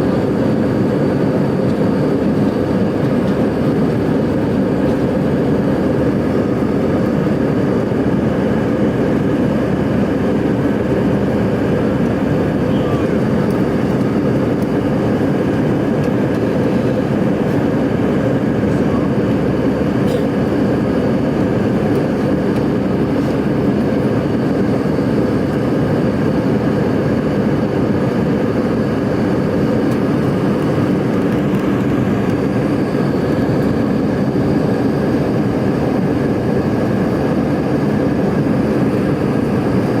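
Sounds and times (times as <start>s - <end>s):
jet engine drone in cabin: 0.0s - 40.0s.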